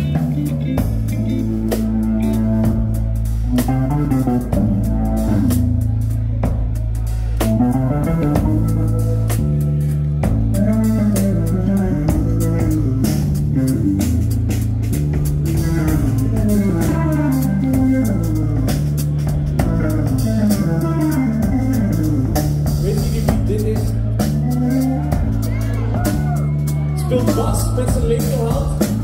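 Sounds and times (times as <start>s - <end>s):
drum kit: 0.0s - 29.0s
electric guitar bending notes: 0.0s - 29.0s
low bass notes: 0.0s - 29.0s.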